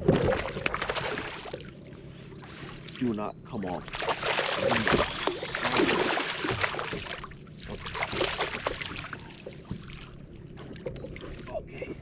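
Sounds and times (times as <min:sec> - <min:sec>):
water splashing by a kayak: 0:00.0 - 0:12.0.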